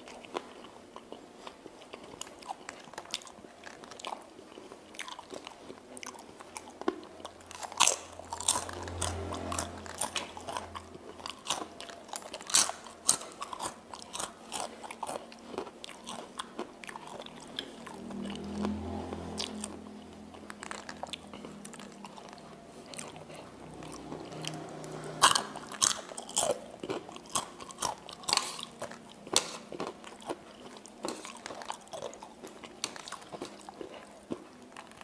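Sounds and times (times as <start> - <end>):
person chewing noodles: 0.0 - 35.0.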